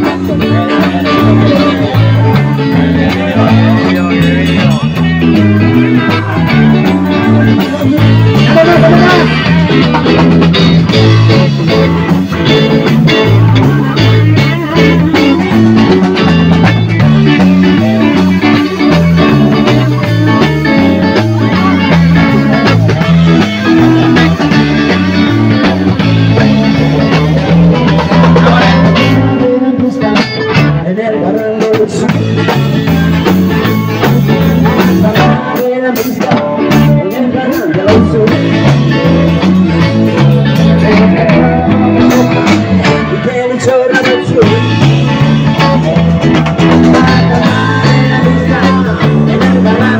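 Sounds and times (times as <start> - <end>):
bass line: 0.0 - 49.9
drum kit: 0.0 - 49.9
electric guitars: 0.0 - 49.9.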